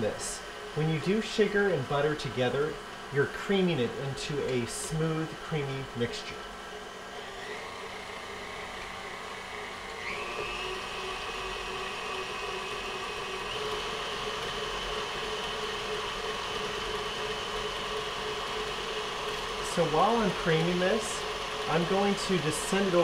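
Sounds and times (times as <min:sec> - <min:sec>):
beater creaming butter in metal bowl: 0:00.0 - 0:23.0
stand mixer motor whine: 0:00.0 - 0:23.0.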